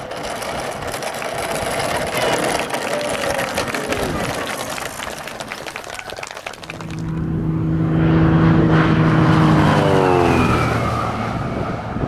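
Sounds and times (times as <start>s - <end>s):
light plane engine flyby: 0.0s - 12.0s.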